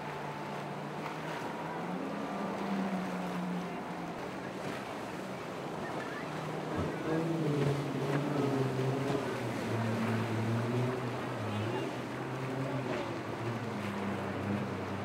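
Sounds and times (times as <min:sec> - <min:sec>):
motorboat engine drone: 0:00.0 - 0:15.0
water splashing: 0:00.0 - 0:15.0.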